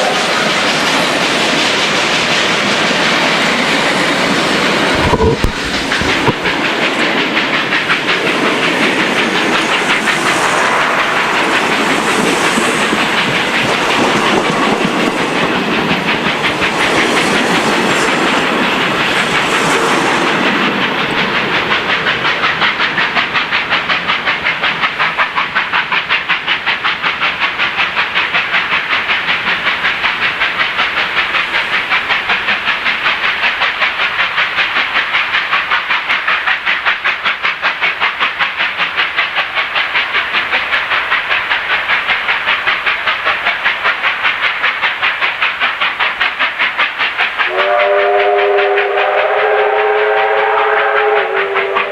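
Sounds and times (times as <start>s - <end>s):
steam train running: 0.0s - 51.9s.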